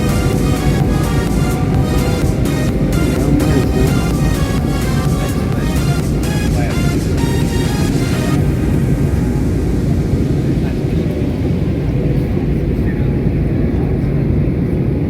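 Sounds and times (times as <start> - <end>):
airplane engines rumbling: 0.0 - 15.0.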